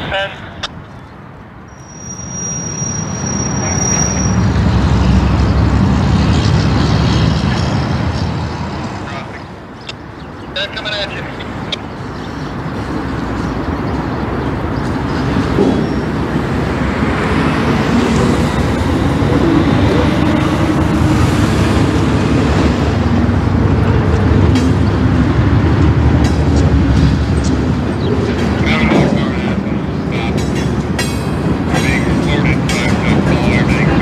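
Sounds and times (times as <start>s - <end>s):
diesel locomotive rumbling: 0.0s - 34.0s.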